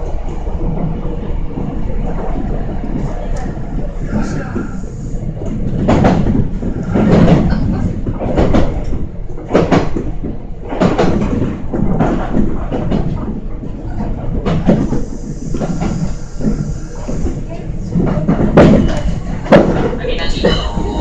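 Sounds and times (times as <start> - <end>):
train rumbling: 0.0 - 21.0
train wheels clacking over joints: 0.0 - 21.0.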